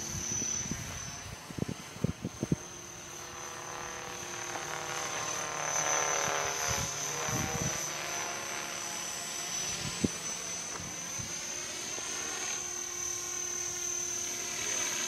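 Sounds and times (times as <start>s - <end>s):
model aircraft motor whine: 0.0s - 15.0s.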